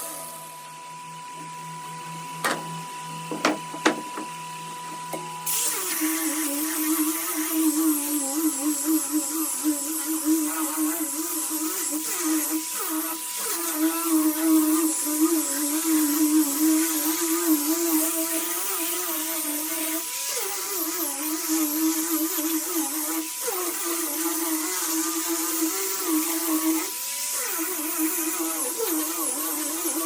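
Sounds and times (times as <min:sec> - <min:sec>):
orbital sander buzzing on wood: 0:00.0 - 0:30.0.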